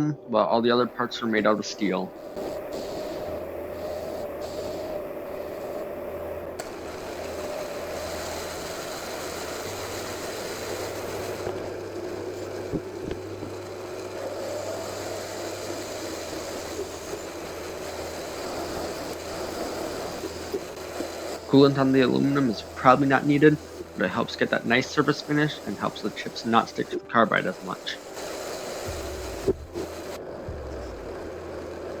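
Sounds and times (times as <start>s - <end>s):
lathe motor whine: 0.0s - 32.0s.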